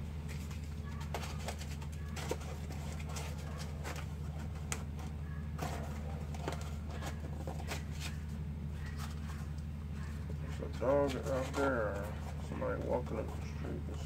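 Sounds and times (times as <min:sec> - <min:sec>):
steady low hum: 0:00.0 - 0:14.0
cardboard crackling and rustling: 0:00.1 - 0:14.0.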